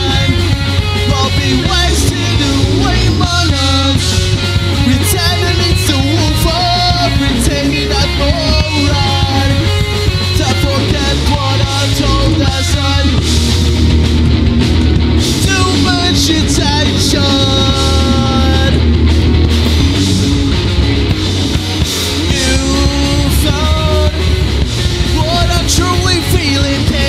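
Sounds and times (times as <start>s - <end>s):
person singing: 0.0s - 13.4s, 15.3s - 18.9s, 21.8s - 27.0s
bass: 0.0s - 27.0s
drums: 0.0s - 27.0s
electric guitar: 0.0s - 27.0s.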